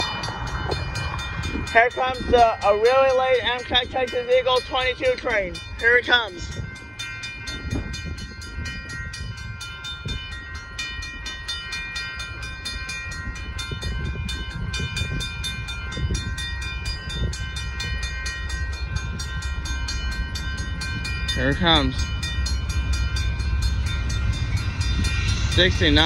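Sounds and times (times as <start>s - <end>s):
crossing warning bell ringing: 0.0s - 26.0s
low rumble: 0.0s - 26.0s.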